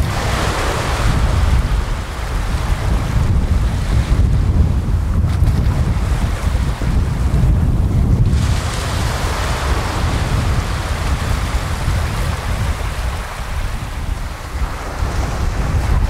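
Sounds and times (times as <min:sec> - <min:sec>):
waves washing on sandy shore: 0:00.0 - 0:16.0
wind rumble on microphone: 0:00.0 - 0:16.0.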